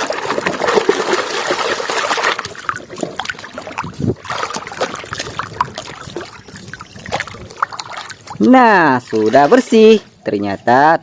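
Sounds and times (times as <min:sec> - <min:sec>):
water dripping: 0:00.0 - 0:10.4
water sloshing and splashing: 0:00.0 - 0:10.6.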